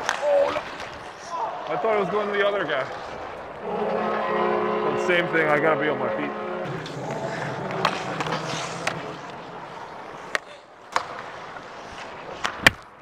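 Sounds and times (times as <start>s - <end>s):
skates scraping on ice: 0.0s - 4.8s, 6.3s - 13.0s.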